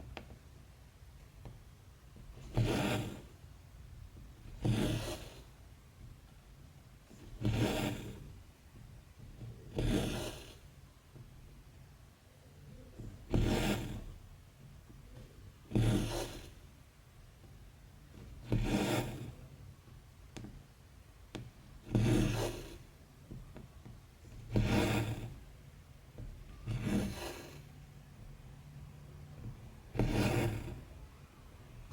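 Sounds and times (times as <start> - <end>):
thread rasping through fabric: 2.2 - 6.2, 7.0 - 11.5, 12.7 - 31.9.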